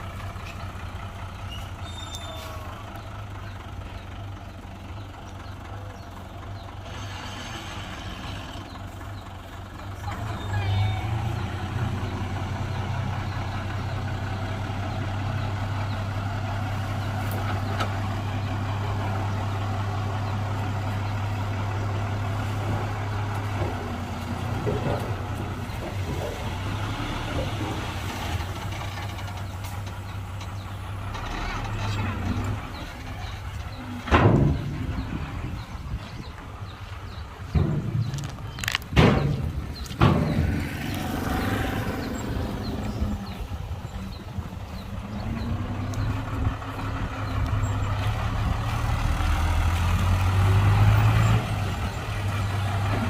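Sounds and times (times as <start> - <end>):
diesel engine of heavy machinery: 0.0 - 53.0.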